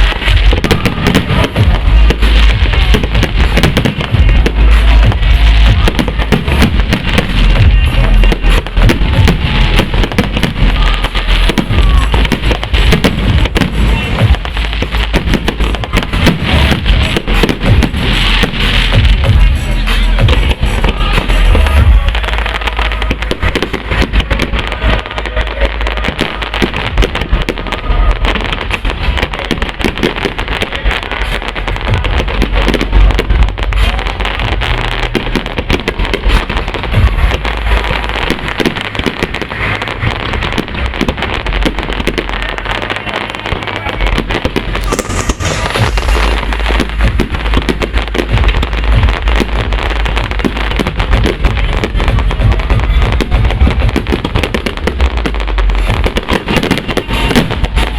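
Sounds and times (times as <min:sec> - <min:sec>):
fireworks bangs and booms: 0:00.0 - 0:57.9
fireworks crackling: 0:00.0 - 0:57.9.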